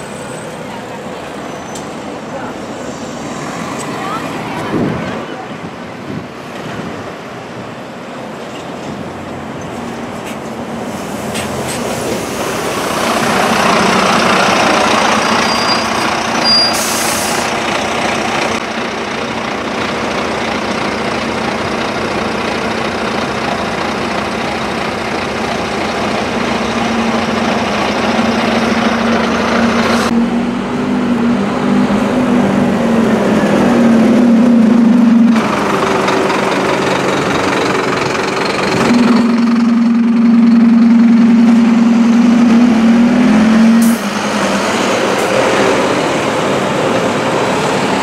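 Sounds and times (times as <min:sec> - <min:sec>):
bus engines running: 0:00.0 - 0:48.0
engine hum: 0:00.0 - 0:48.0.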